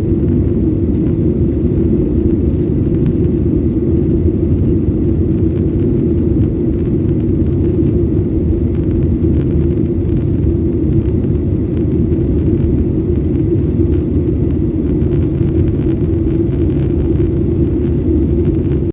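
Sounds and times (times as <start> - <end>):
airliner cabin rumble: 0.0 - 18.9.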